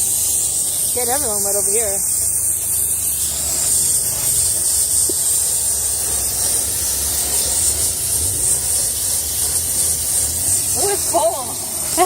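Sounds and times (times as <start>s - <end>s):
compressed air duster hissing: 0.0s - 12.0s.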